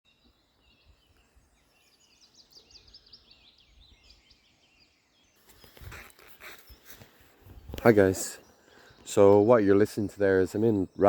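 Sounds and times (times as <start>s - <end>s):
faint woodland birdsong: 0.1s - 11.0s.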